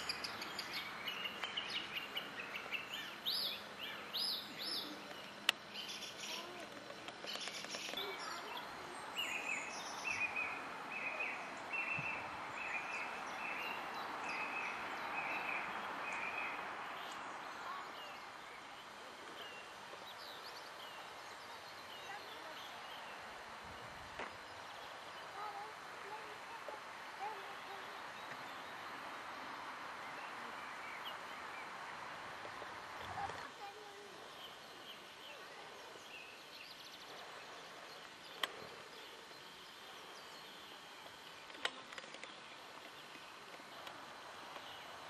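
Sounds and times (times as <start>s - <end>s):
songbirds chirping: 0.0s - 45.0s
steady outdoor hiss: 0.0s - 45.0s.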